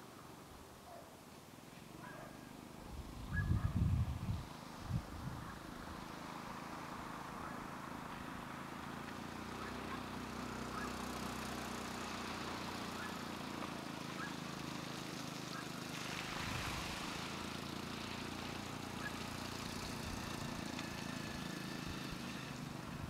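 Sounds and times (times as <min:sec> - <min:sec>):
distant quad bike engine: 0:00.0 - 0:23.0.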